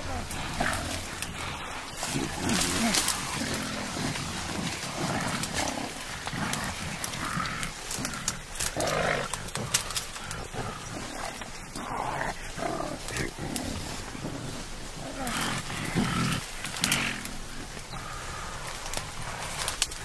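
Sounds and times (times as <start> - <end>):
bamboo rustling and cracking: 0.0 - 20.0
gorillas calling: 0.0 - 20.0.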